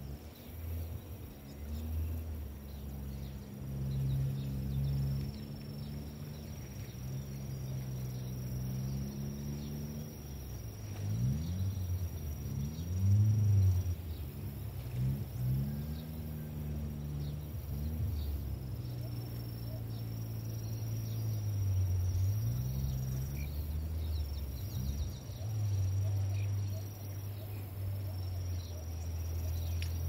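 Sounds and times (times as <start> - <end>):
high insect trill: 0.0 - 30.0.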